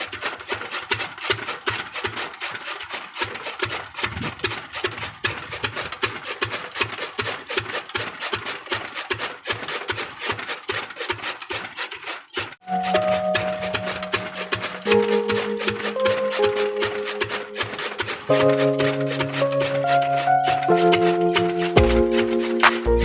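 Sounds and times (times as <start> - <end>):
pumpset engine knocking: 0.0 - 23.0.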